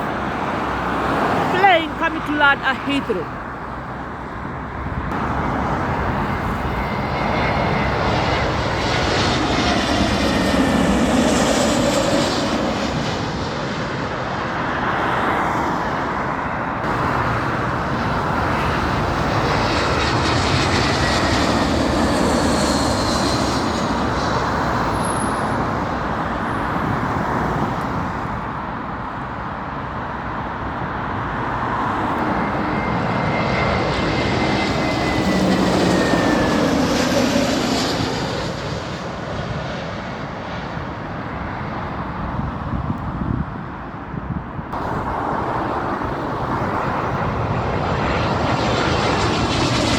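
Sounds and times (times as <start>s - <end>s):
jet airliners passing overhead: 0.0s - 49.9s.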